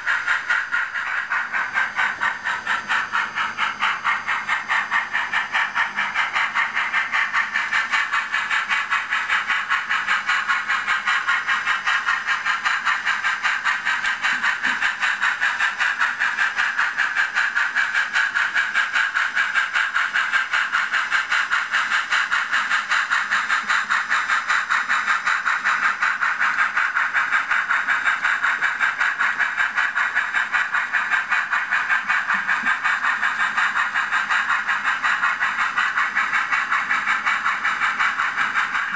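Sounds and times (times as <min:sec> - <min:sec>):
hiss: 0:00.0 - 0:38.9
train running with rapid pulsing: 0:00.0 - 0:38.9.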